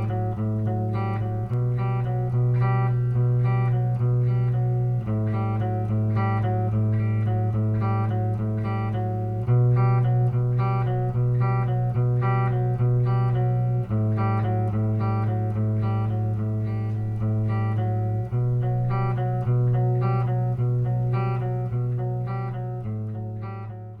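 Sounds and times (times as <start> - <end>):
plucked guitar pattern: 0.0 - 24.0.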